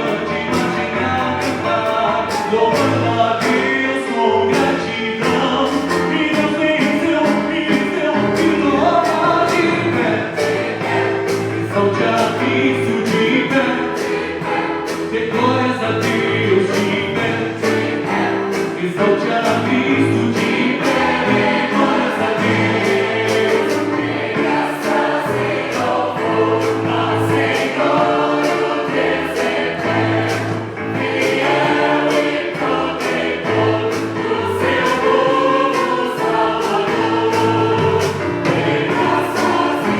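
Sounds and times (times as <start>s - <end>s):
choir singing gospel: 0.0s - 39.9s
keyboard accompaniment: 0.0s - 39.9s.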